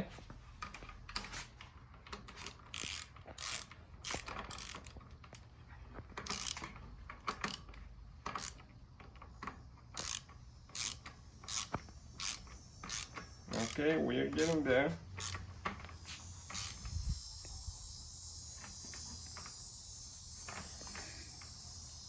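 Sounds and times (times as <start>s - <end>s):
ratchet wrench clicking: 2.0s - 5.4s, 6.2s - 22.0s.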